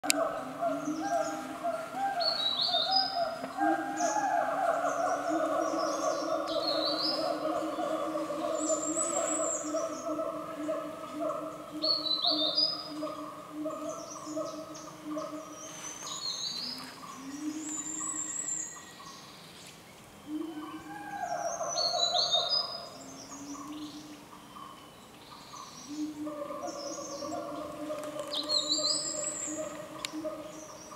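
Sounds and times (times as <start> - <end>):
birds singing: 0.0 - 30.9.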